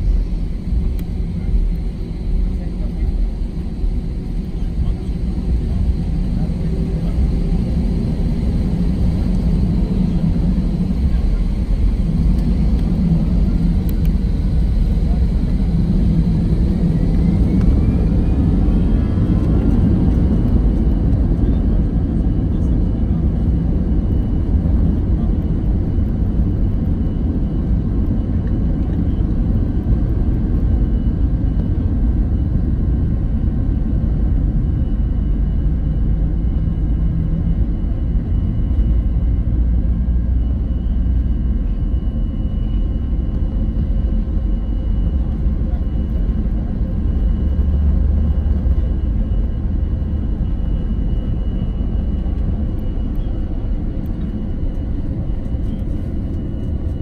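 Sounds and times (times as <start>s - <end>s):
faint constant whine: 0.0s - 57.0s
jet engine roar in cabin: 0.0s - 57.0s.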